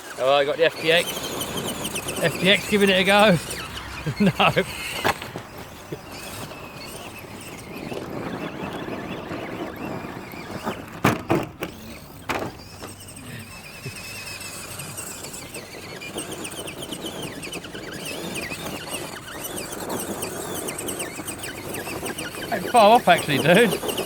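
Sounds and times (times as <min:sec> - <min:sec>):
electric motor and gears whirring: 0:00.0 - 0:24.0.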